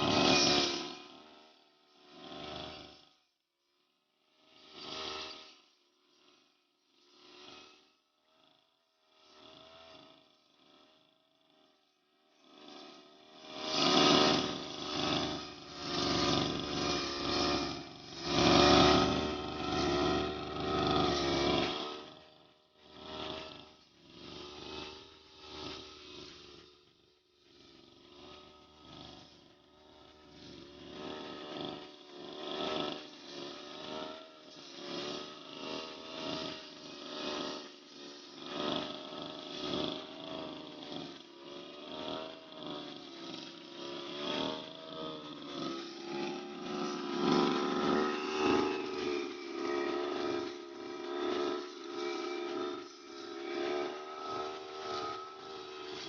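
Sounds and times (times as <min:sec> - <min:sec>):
brush cutter cutting grass: 0:00.0 - 0:56.0.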